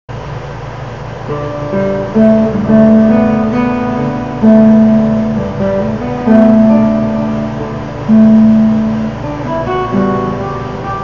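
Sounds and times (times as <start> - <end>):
fingerstyle classical guitar: 1.3 - 11.0.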